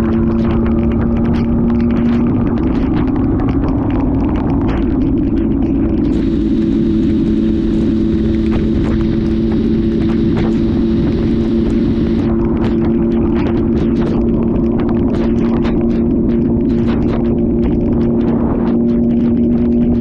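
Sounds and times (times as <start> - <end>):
motorcycle engine running: 0.0 - 20.0
scattered clicks: 0.0 - 20.0.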